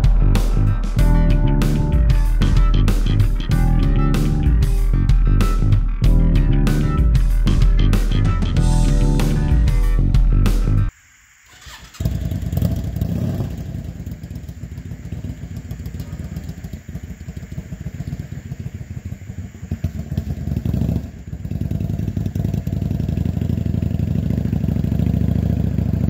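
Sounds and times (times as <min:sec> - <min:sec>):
motorcycle engine starting and running: 0:00.0 - 0:10.8, 0:11.5 - 0:26.0.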